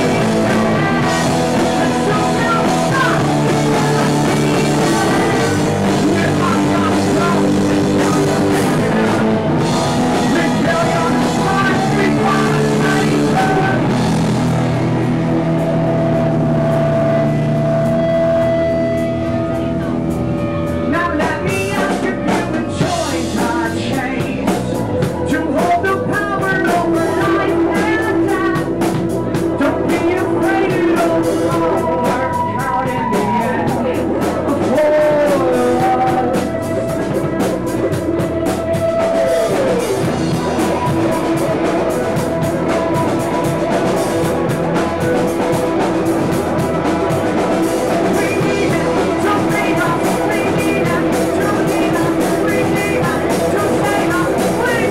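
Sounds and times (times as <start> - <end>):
drum kit: 0.0 - 54.9
electric guitars: 0.0 - 54.9
person singing: 0.0 - 54.9.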